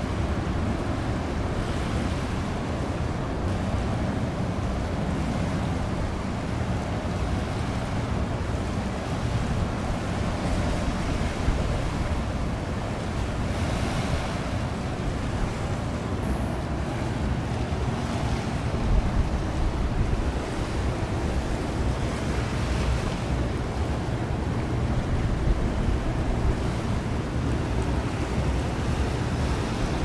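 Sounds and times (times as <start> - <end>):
choppy sea water: 0.0 - 30.0
wind rumbling on microphone: 0.0 - 30.0.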